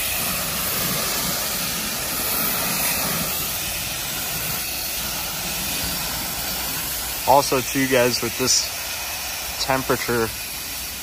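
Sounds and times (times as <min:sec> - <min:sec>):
pressure washer drone: 0:00.0 - 0:11.0
water spray hissing: 0:00.0 - 0:11.0.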